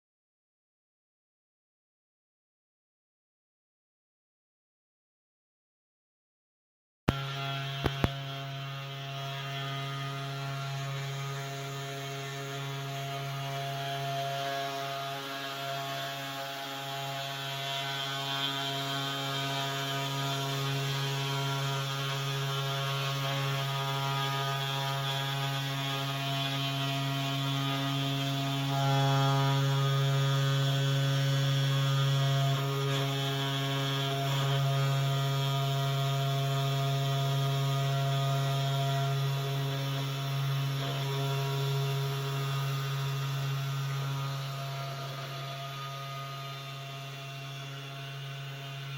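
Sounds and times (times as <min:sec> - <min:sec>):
router motor hum with whine: 0:07.1 - 0:48.9.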